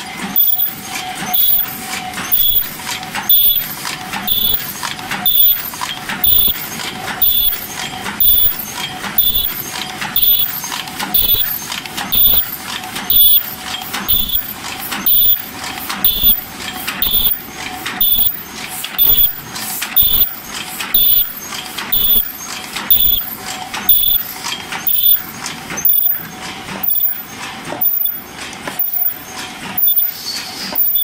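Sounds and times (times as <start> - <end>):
paper cup machine clattering: 0.4 - 31.0.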